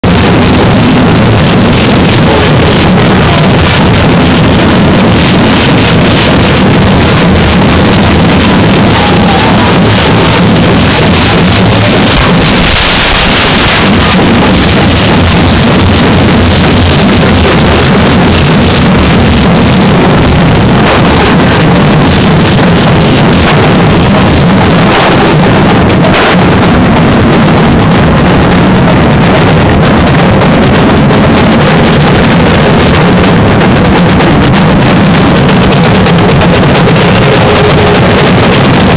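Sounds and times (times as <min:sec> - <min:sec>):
sparking fireworks hissing and crackling: 0:00.0 - 0:38.9.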